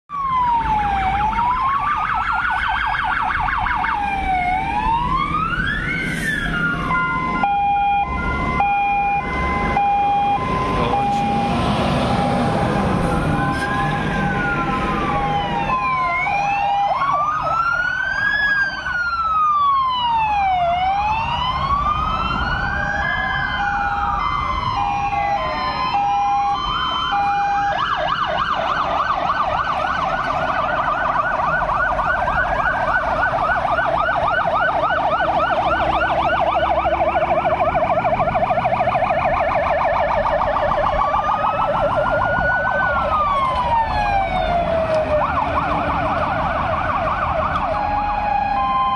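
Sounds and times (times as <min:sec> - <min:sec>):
siren yelp: 0:00.1 - 0:48.9
sirens wailing: 0:00.1 - 0:48.9
truck engines running: 0:00.1 - 0:48.9
two-tone siren: 0:00.1 - 0:48.9.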